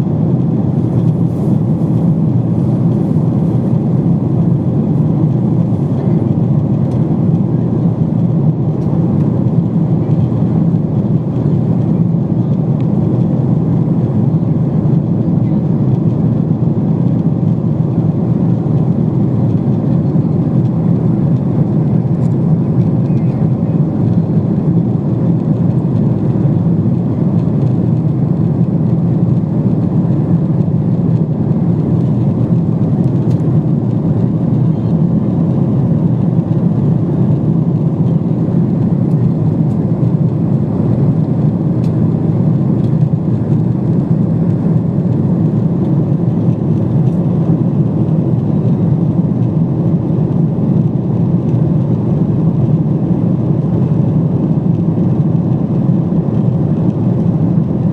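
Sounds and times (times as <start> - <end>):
airliner cabin engine roar: 0.0 - 57.9.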